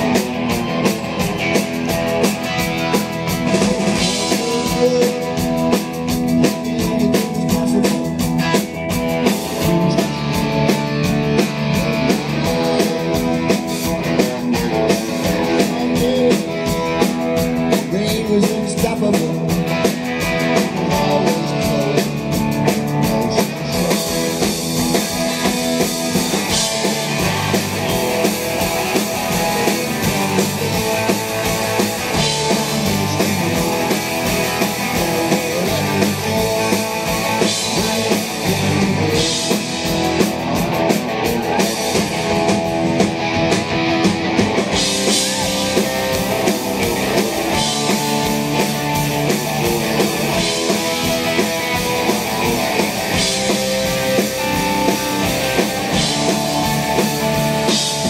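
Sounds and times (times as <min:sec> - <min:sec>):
bass guitar: 0:00.0 - 0:58.0
drum kit rock beat: 0:00.0 - 0:58.0
electric guitars: 0:00.0 - 0:58.0.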